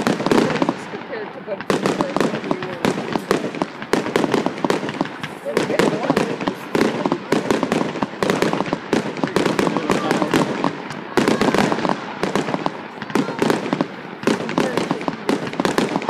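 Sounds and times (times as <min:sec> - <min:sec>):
fireworks popping and banging: 0:00.0 - 0:16.0.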